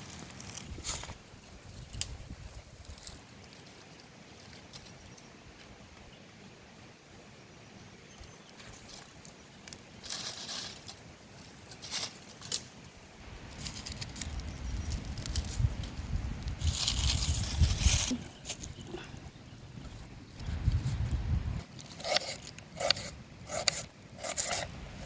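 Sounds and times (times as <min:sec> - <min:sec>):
rustling and scraping: 0:00.0 - 0:05.8, 0:08.5 - 0:25.0.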